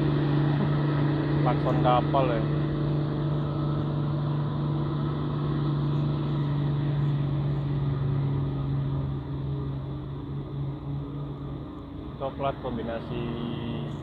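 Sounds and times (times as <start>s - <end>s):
truck engine rumble: 0.0s - 14.0s.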